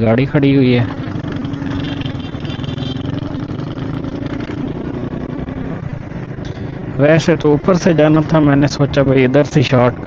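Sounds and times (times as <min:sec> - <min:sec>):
motorcycle engine running: 0:00.2 - 0:08.4.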